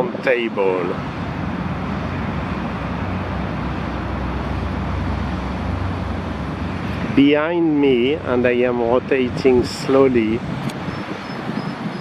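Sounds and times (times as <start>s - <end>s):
broad rushing noise: 0.0s - 8.4s, 9.0s - 12.0s.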